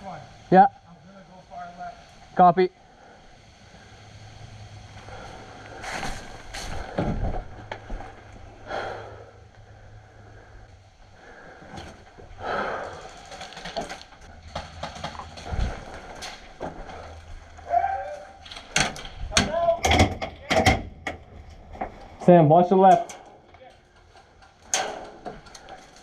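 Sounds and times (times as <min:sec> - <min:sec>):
steady low rumble: 0:00.0 - 0:22.5.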